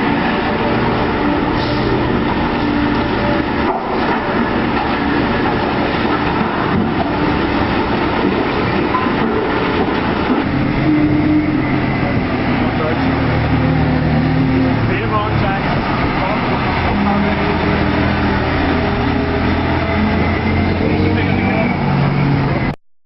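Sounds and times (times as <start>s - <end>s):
heavy machinery running: 0.0s - 22.8s.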